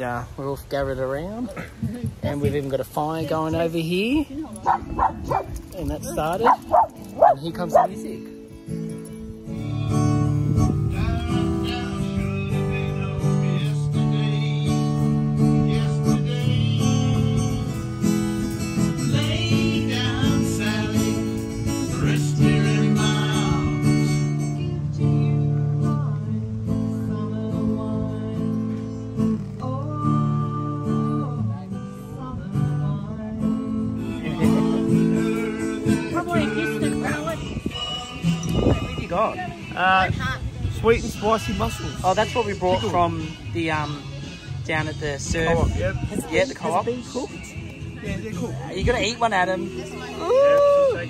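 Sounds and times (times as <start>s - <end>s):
acoustic guitar strumming chords: 4.6s - 50.3s
man singing: 4.8s - 51.0s.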